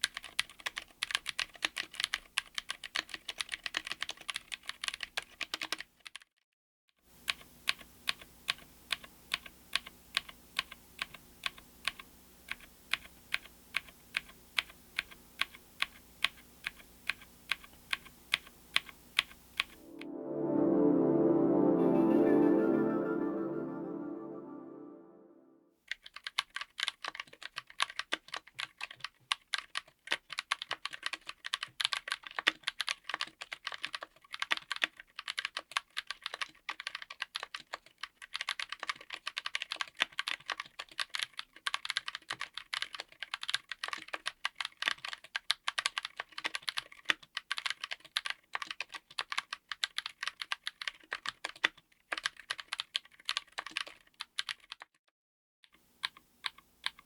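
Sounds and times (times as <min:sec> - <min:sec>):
fast mechanical keyboard typing: 0:00.0 - 0:06.2, 0:07.2 - 0:19.8, 0:25.9 - 0:54.9.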